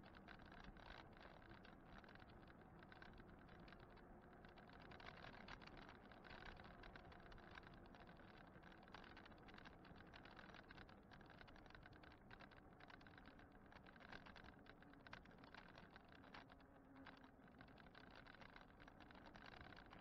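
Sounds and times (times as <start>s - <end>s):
faint rattling and clicking: 0.0s - 20.0s
low rumble of tyres on asphalt: 0.0s - 20.0s.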